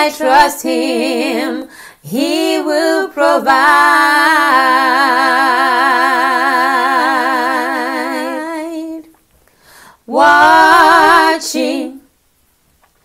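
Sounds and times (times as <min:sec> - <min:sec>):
woman singing a cappella: 0:00.0 - 0:09.2, 0:09.9 - 0:12.1.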